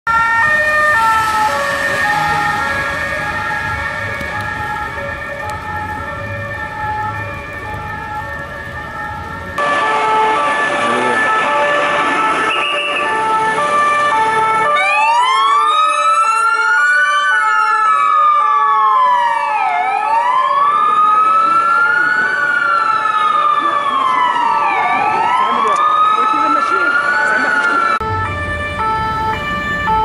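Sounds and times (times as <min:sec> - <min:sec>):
electronic wail siren: 0:00.1 - 0:30.0
two-tone siren: 0:00.1 - 0:30.0.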